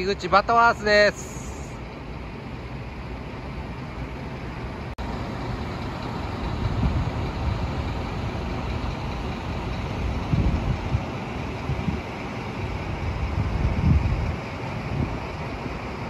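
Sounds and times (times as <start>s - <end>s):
large engine rumbling: 0.0s - 16.0s
outdoor noise: 0.0s - 16.0s.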